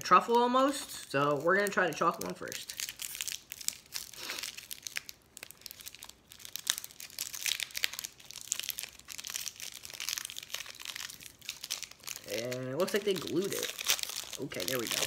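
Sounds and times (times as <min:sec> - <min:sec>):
foil wrapper crinkling and tearing: 0:00.7 - 0:15.0.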